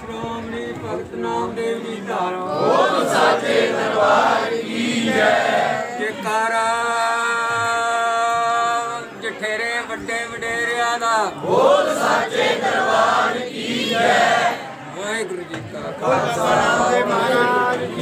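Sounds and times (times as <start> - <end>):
group chanting a prayer: 0.0 - 9.2, 11.2 - 15.0, 15.6 - 18.0.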